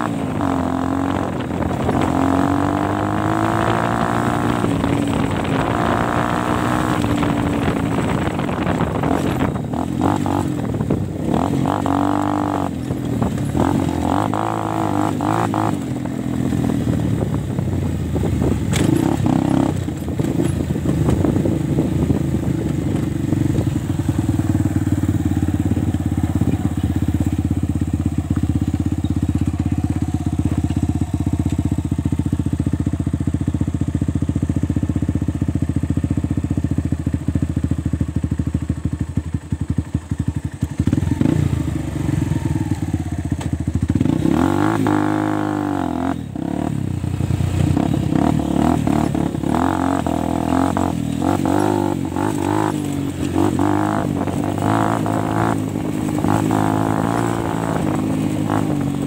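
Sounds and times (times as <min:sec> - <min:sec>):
dirt bike engine revving: 0:00.0 - 0:17.1, 0:18.4 - 0:31.4, 0:40.8 - 0:43.2, 0:43.8 - 0:59.0.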